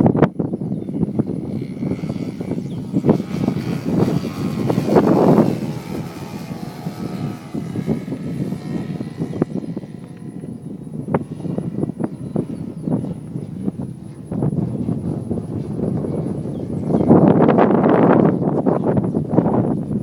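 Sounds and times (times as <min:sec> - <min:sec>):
model airplane motor and propeller: 0:00.0 - 0:20.0.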